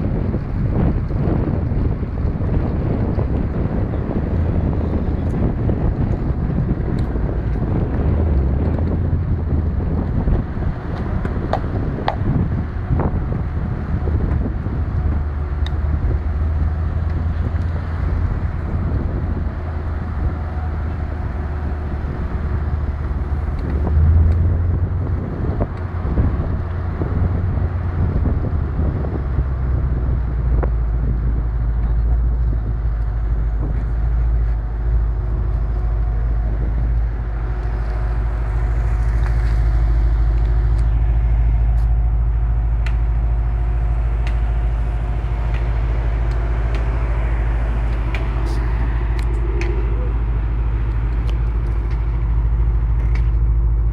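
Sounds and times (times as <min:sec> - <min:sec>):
car engine and exhaust rumble: 0:00.0 - 0:53.9.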